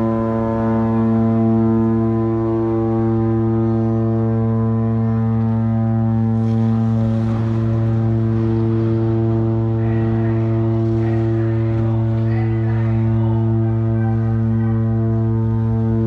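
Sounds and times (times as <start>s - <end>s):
ship horn long low blast: 0.0s - 16.0s.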